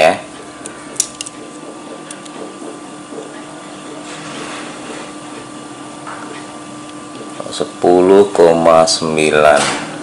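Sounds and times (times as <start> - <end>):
fan or motor whirring: 0.0 - 10.0.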